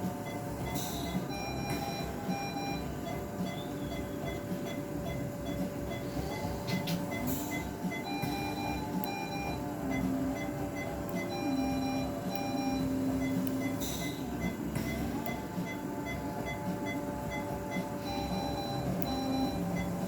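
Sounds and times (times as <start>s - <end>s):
quiet background music: 0.0s - 20.0s
short electronic beeps: 0.0s - 20.0s
steady hum: 0.0s - 20.0s.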